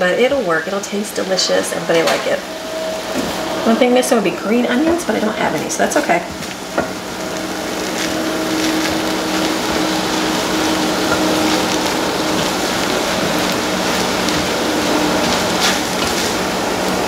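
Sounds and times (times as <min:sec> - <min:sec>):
steady hum: 0:00.0 - 0:17.0
rice sizzling in frying pan: 0:02.4 - 0:17.0.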